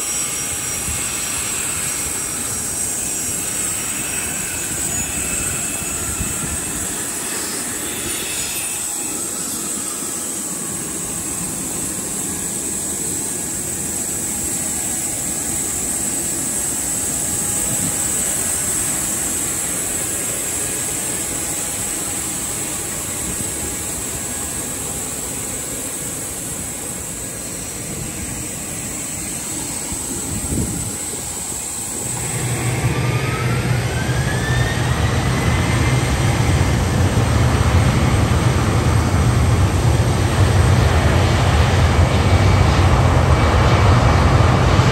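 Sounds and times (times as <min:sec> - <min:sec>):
jet engine rushing: 0:00.0 - 0:44.9
rising whine: 0:00.0 - 0:44.9.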